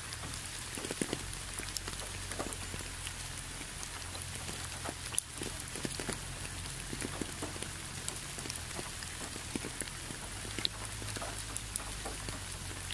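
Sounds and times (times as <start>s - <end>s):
low steady hum: 0.0s - 12.9s
raindrops striking close by: 0.0s - 12.9s
steady rain: 0.0s - 12.9s.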